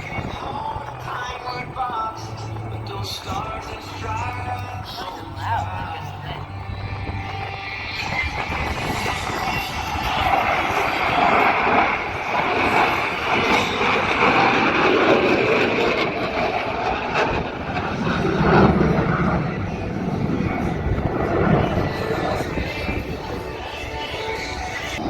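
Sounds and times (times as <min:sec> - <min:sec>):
jet flying overhead: 0:00.0 - 0:25.0.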